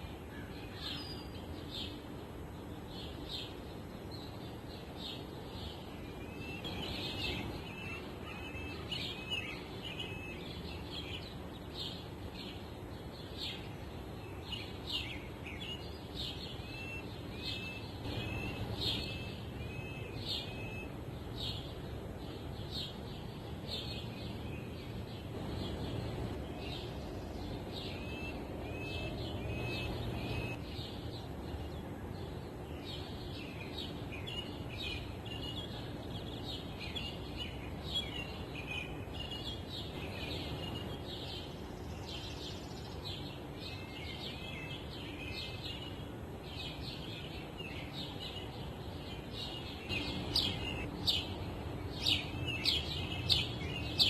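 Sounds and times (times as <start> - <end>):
low rush of wind: 0.0 - 54.0
songbirds chirping: 0.0 - 54.0.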